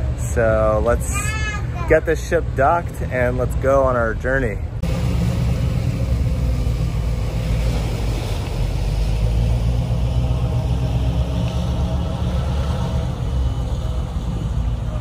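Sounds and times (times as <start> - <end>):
ship engines low rumble: 0.0 - 15.0.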